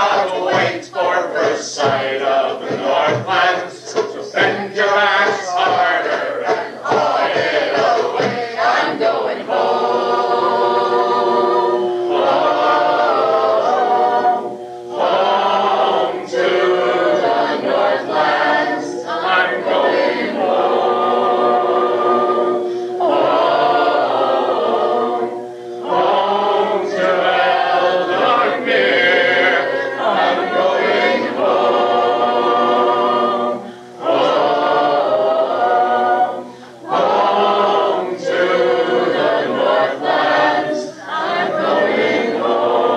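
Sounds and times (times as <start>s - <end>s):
choir singing in harmony: 0.0s - 42.9s.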